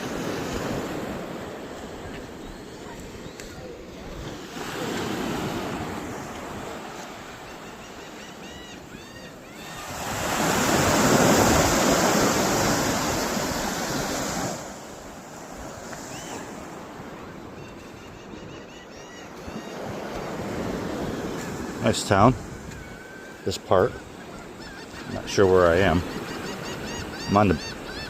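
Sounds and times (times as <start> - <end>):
waves washing in: 0.0 - 17.6, 19.4 - 28.0.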